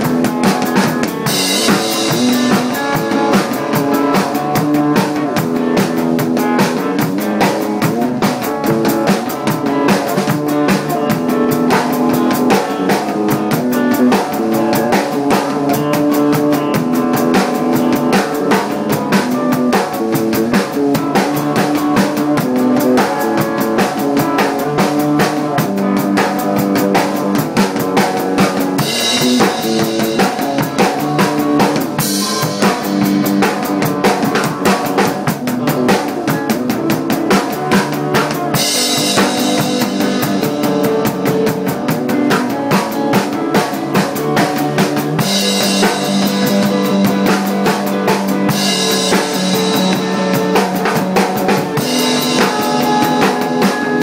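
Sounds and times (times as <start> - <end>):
band jamming: 0.0 - 54.0
drum kit beat: 0.0 - 54.0.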